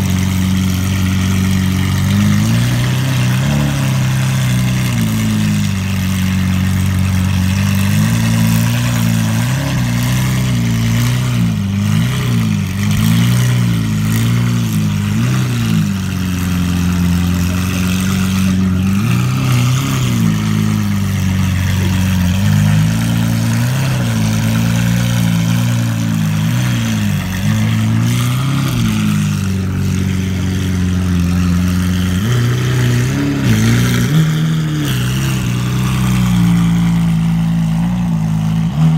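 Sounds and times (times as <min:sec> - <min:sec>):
car engine idling: 0:00.0 - 0:38.9
engine throttle blips: 0:00.0 - 0:38.9.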